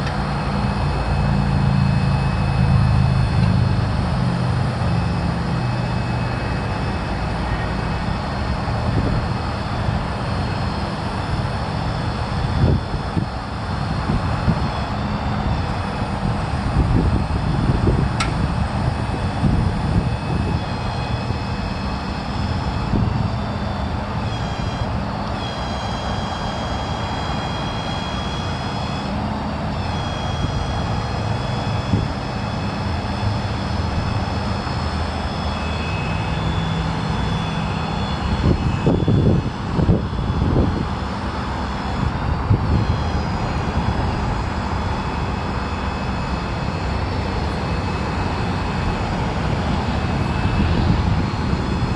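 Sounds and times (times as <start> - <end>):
diesel engine rumbling: 0.0 - 51.9
high hydraulic whine: 0.0 - 51.9.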